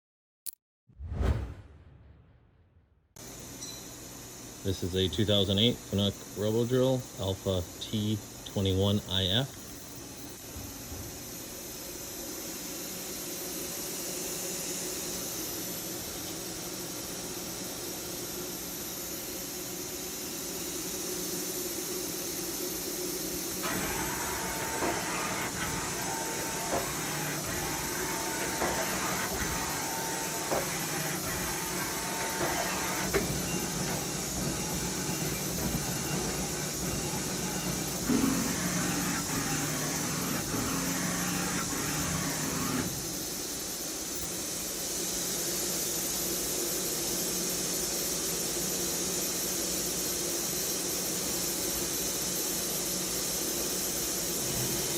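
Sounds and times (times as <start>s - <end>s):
machining center hiss: 3.2s - 54.9s.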